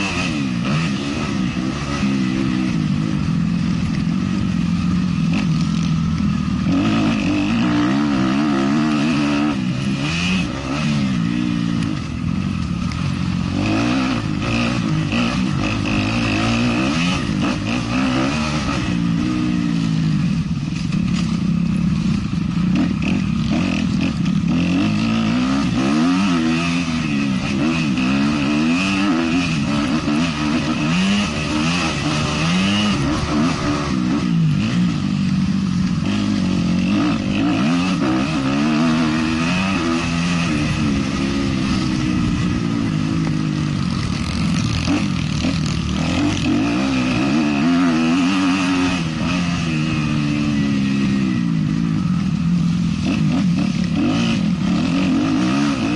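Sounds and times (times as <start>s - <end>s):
motocross bike engine racing: 0.0s - 55.9s.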